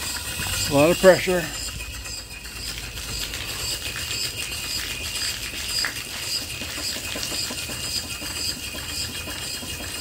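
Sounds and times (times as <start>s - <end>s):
steam pump beating: 0.0s - 10.0s
water jet splashing on pavement: 0.0s - 10.0s.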